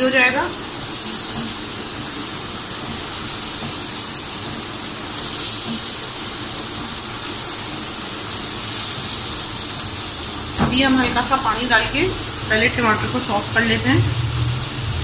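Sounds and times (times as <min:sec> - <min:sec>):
masala sizzling in oil: 0:00.0 - 0:15.0.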